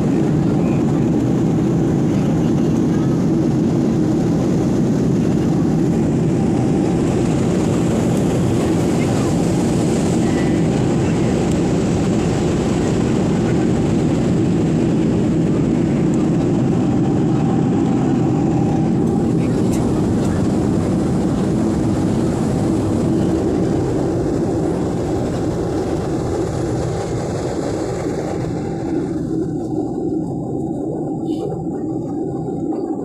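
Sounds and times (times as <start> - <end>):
airliner cabin noise: 0.0 - 33.0.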